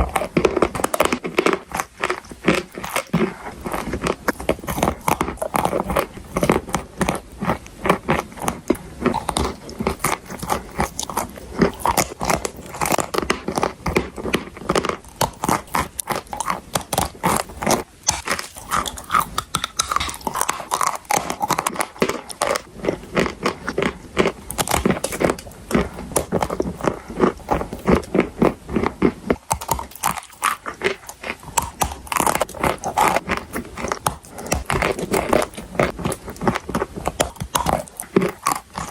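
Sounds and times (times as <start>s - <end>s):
person chewing hard chalk: 0.0s - 38.9s.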